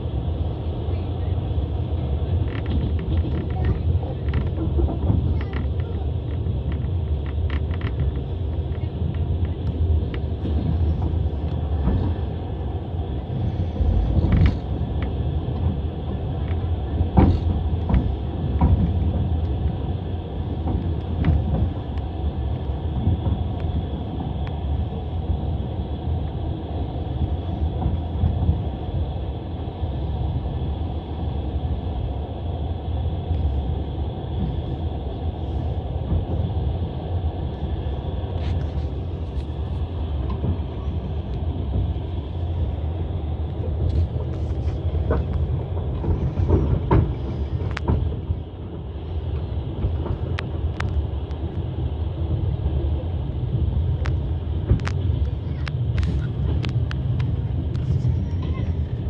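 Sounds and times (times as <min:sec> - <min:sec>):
train carriage rumble: 0:00.0 - 0:59.0
wheels clacking over rail joints: 0:01.8 - 0:29.1, 0:35.9 - 0:59.0.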